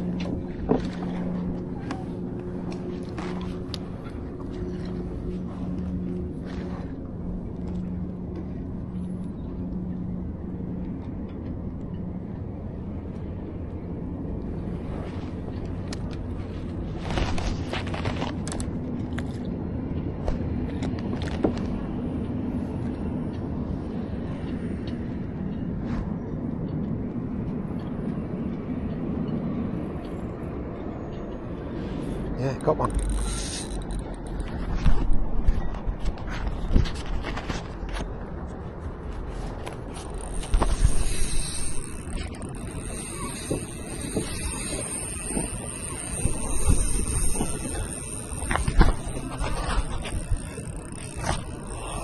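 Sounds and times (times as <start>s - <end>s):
low engine drone: 0.0s - 52.0s.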